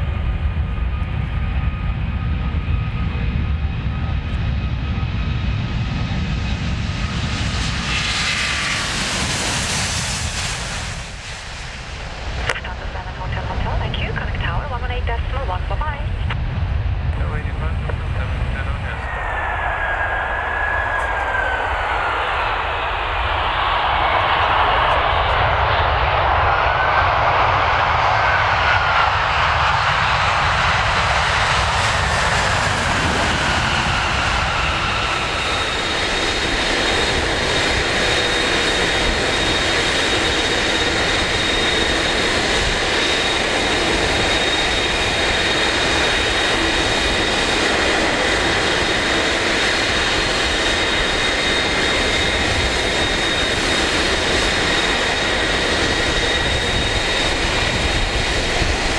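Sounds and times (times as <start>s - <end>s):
jet engines rushing on landing: 0.0s - 58.9s
turbofan engine whining: 0.0s - 58.9s.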